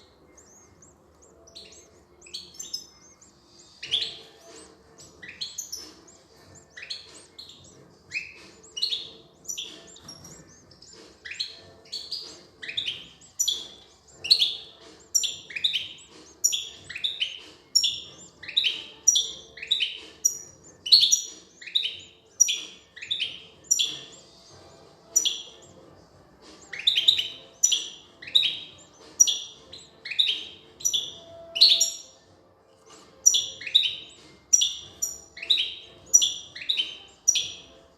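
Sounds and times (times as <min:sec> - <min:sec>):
goldfinch chirping: 0:00.0 - 0:25.9, 0:26.5 - 0:32.1, 0:33.1 - 0:37.9.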